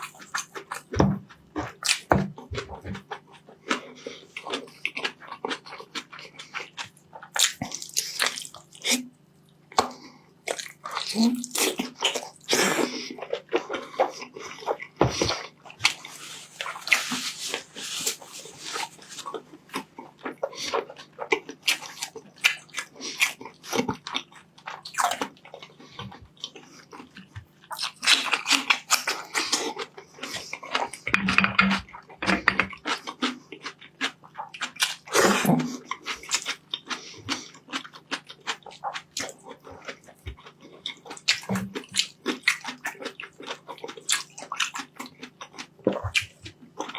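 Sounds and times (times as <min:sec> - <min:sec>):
person chewing food: 0:00.0 - 0:46.9.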